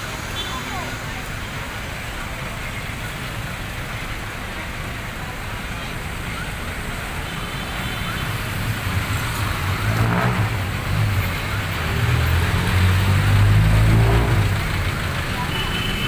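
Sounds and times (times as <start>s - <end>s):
trucks passing: 0.0s - 16.0s.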